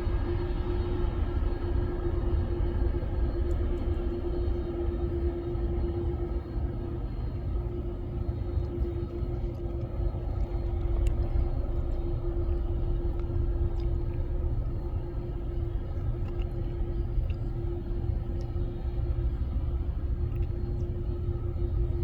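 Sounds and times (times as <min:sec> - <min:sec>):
aircraft engines rumbling: 0:00.0 - 0:22.0
steady droning tone: 0:00.0 - 0:22.0.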